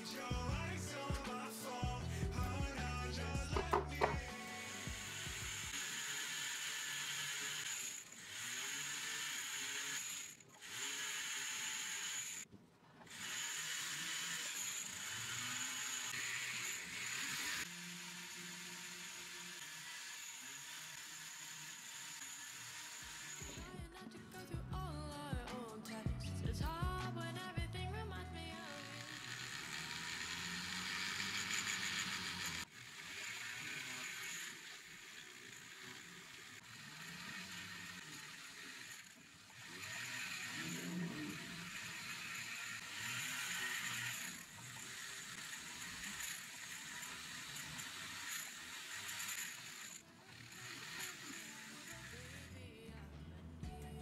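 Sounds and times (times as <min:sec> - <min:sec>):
rotary tool high whine: 0:03.6 - 0:23.6, 0:28.5 - 0:52.6.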